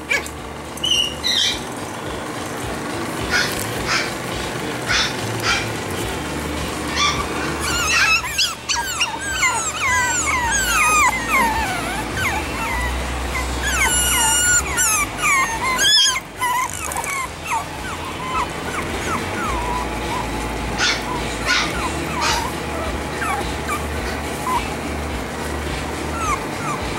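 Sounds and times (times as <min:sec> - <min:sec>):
puppies whining and yipping: 0:00.0 - 0:04.3, 0:04.9 - 0:26.9.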